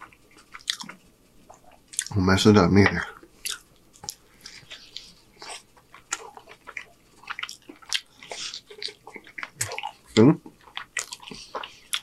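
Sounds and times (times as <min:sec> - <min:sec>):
man chewing with wet smacks: 0:00.0 - 0:02.2, 0:03.2 - 0:12.0.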